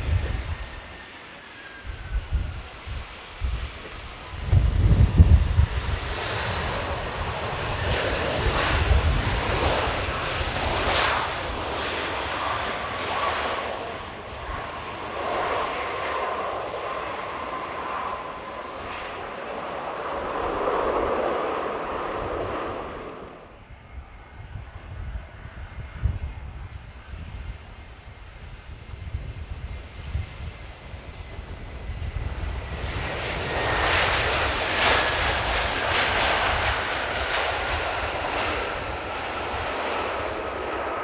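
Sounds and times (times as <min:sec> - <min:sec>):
jet engines whining: 0:00.0 - 0:41.0
wind buffeting microphone: 0:00.0 - 0:41.0.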